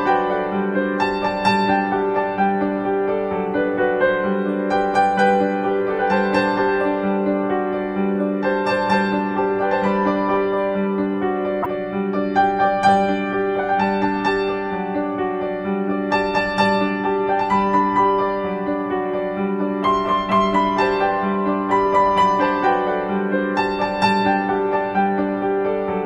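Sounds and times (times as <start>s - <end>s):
gentle piano melody: 0.0s - 26.0s.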